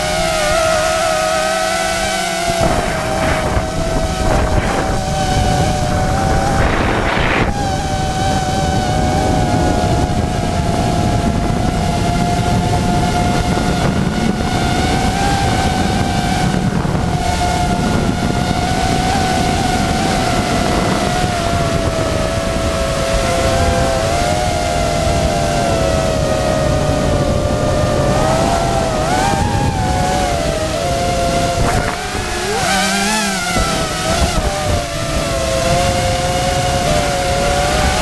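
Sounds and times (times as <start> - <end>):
drone propellers whining: 0.0 - 38.0
low wind noise: 0.0 - 38.0.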